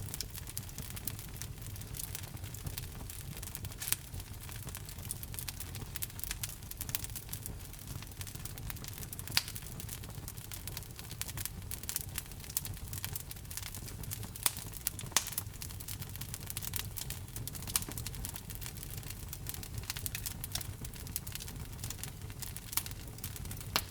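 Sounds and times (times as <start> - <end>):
fire crackling in fireplace: 0.0 - 23.9
fire popping: 0.0 - 23.9
rumble of flames: 0.0 - 23.9.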